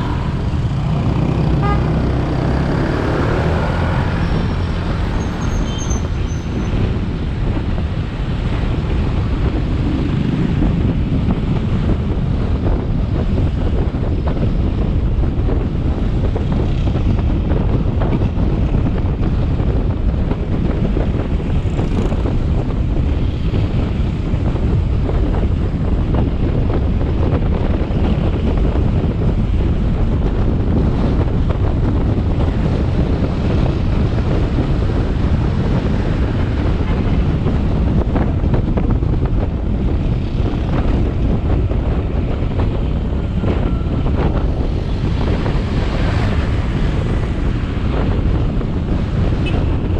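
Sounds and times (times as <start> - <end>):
road noise: 0.0 - 49.9
wind buffeting microphone: 0.0 - 49.9.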